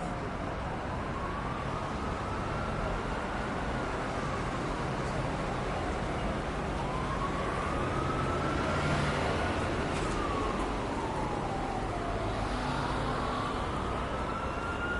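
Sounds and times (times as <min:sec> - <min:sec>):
emergency vehicle siren wailing: 0:00.0 - 0:14.9
road traffic rumble: 0:00.0 - 0:14.9.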